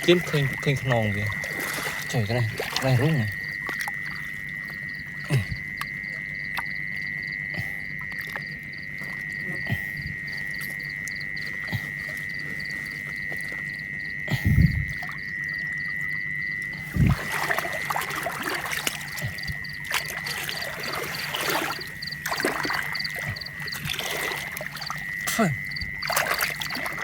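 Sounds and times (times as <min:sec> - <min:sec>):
frog and insect chorus: 0:00.0 - 0:27.0.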